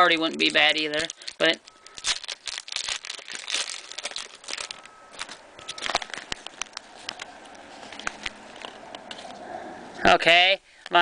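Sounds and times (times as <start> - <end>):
wrapper crinkling and tearing: 0.0 - 9.3
cards being shuffled: 0.2 - 9.4.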